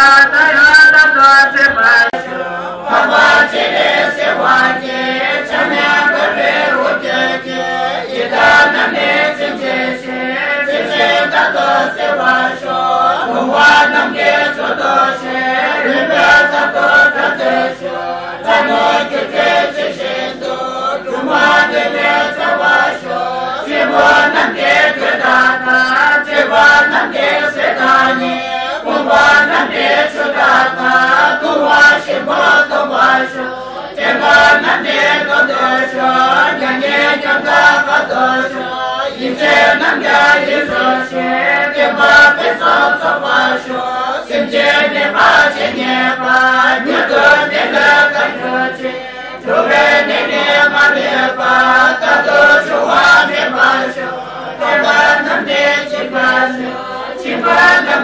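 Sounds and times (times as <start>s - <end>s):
congregation chanting prayers: 0.0s - 58.0s.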